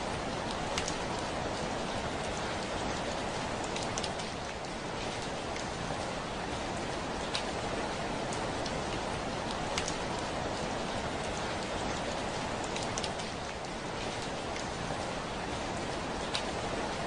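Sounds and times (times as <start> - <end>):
heavy rain on a window: 0.0 - 17.0.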